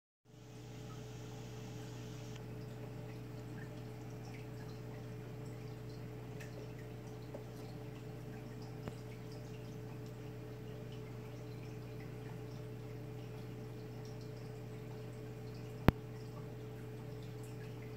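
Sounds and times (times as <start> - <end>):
aquarium equipment hum: 0.3 - 17.9
water trickling and dripping: 2.3 - 17.9.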